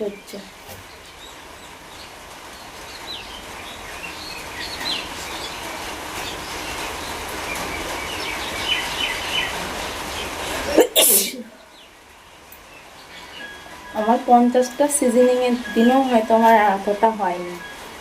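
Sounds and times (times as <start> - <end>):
bird chirps: 0.0 - 10.4, 11.5 - 17.8.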